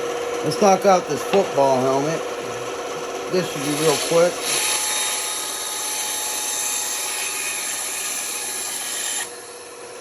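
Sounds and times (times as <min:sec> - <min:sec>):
band saw cutting wood: 0:00.4 - 0:09.9.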